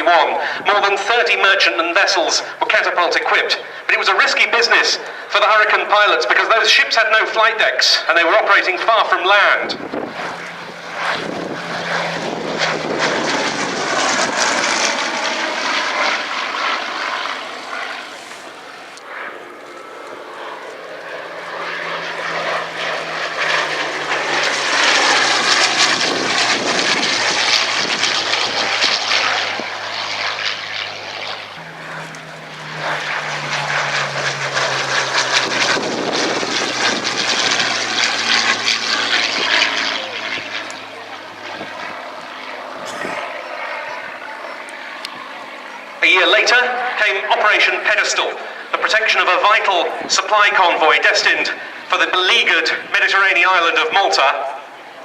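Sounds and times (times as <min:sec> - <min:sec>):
propeller plane engine passing: 0:00.0 - 0:55.0.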